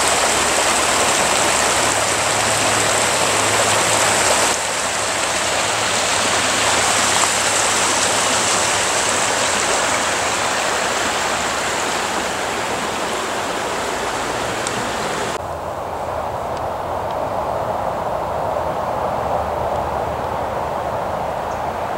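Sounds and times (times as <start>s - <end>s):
waterfall and creek rushing: 0.0s - 21.9s.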